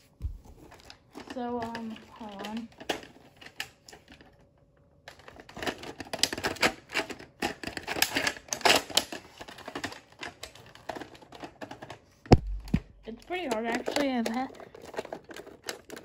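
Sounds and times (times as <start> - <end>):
small plastic clicks and rattles: 0.9 - 4.4, 5.0 - 12.0, 13.0 - 16.0.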